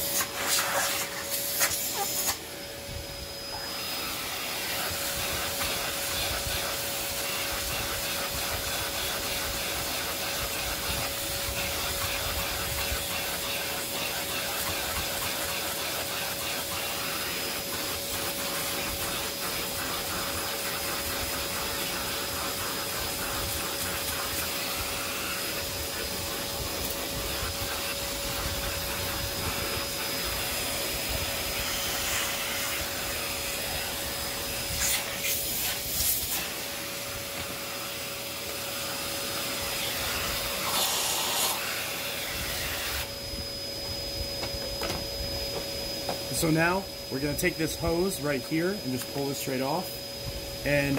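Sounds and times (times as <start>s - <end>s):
vacuum cleaner whining: 0.0s - 50.9s.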